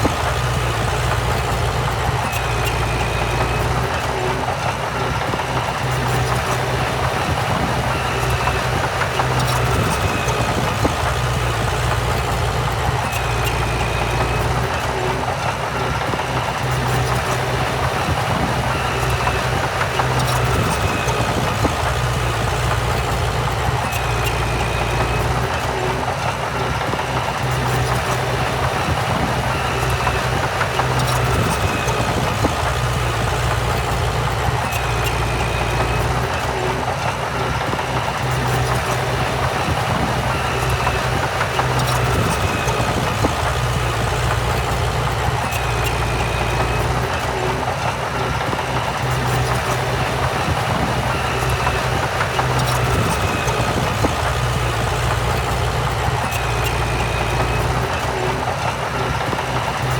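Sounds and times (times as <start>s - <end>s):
diesel machinery engine running: 0.0s - 59.9s.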